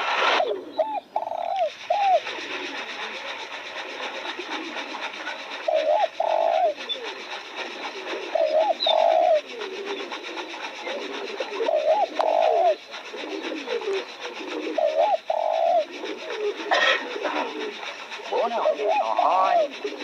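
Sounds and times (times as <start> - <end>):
dove cooing: 0.2 - 20.0
fainter lower bird calls: 0.4 - 20.0.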